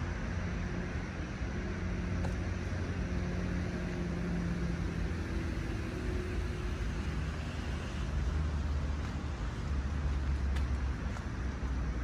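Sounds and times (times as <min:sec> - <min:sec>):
distant city traffic rumble: 0:00.0 - 0:12.0
faint engine hum: 0:00.0 - 0:12.0.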